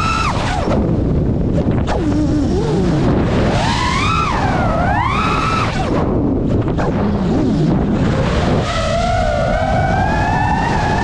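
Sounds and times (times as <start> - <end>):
drone motors whining: 0.0 - 11.0
steady low rumble: 0.0 - 11.0.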